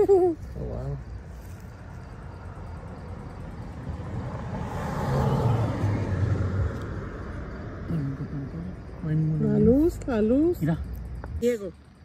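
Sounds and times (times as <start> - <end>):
car passing: 0.6 - 12.0.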